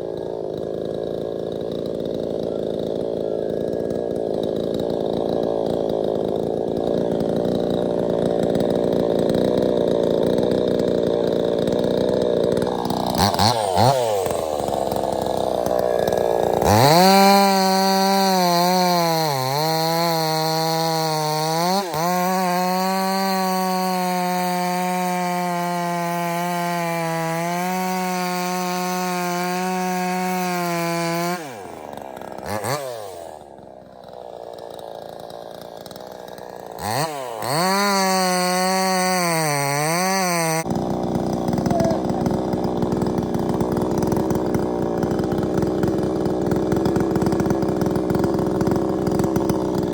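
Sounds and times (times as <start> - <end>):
chainsaw running at high revs: 0.0 - 49.9.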